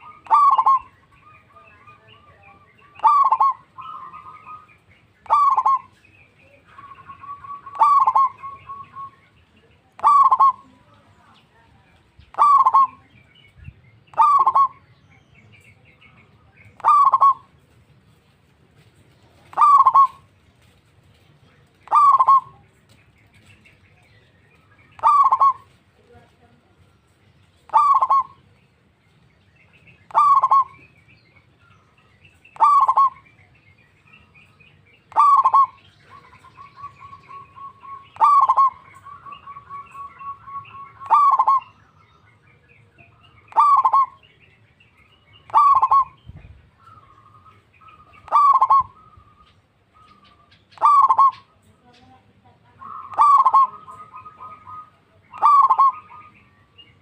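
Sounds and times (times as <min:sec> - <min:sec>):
dove calling: 0:00.0 - 0:57.0.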